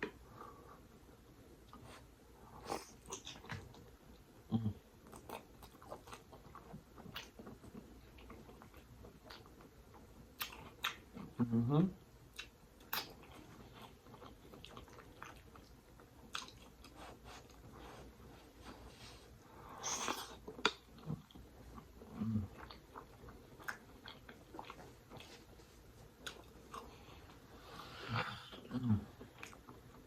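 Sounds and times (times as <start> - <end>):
person chewing food: 1.7 - 11.3, 12.3 - 30.0.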